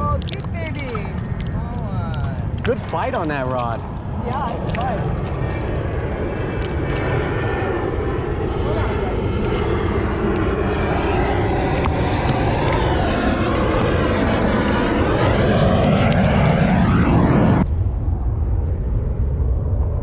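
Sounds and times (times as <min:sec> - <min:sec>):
loud engine drone: 0:00.0 - 0:20.0.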